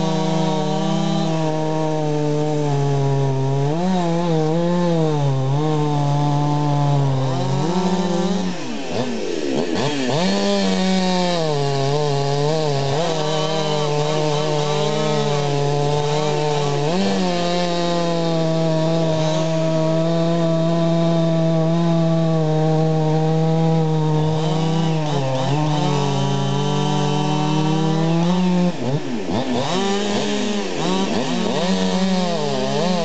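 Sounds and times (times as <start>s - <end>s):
chainsaw cutting log: 0.0s - 33.0s.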